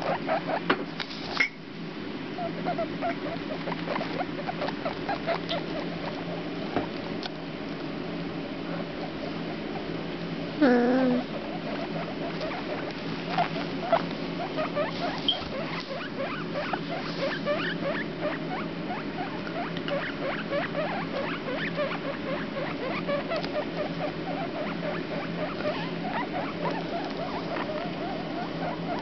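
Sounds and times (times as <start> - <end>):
guinea pig squeaking: 0.0 - 1.6, 2.4 - 7.0, 10.6 - 29.0
low background hum: 0.0 - 29.0.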